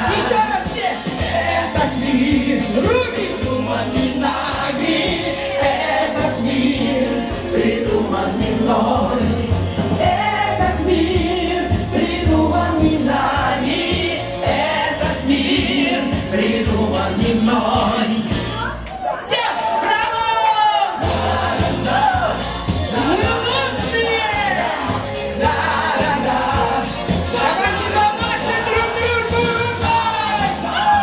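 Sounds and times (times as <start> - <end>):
person singing into a microphone: 0.0 - 18.6, 20.7 - 31.0
backing track with bass beat: 0.0 - 19.0, 20.9 - 31.0.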